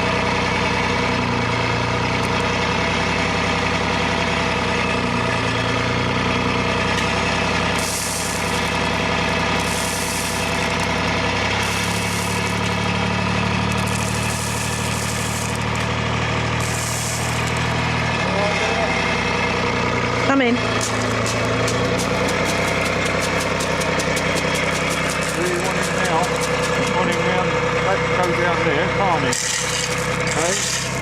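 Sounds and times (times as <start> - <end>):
machine engine idling: 0.0 - 31.0.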